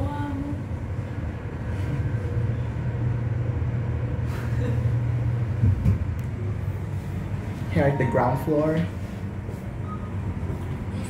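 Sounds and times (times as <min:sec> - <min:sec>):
elevator low rumble: 0:00.0 - 0:11.0.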